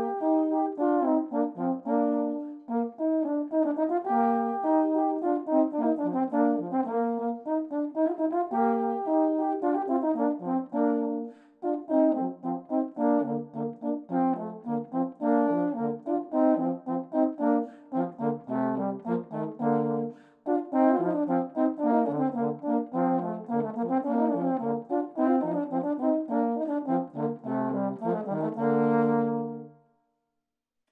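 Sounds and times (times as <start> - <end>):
euphonium duet: 0.0 - 29.8.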